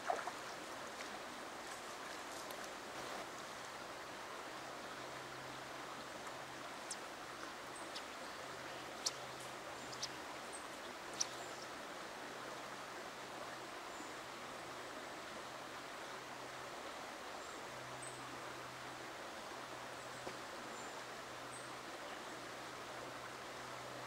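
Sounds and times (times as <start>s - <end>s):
river flowing over stones: 0.0s - 24.0s.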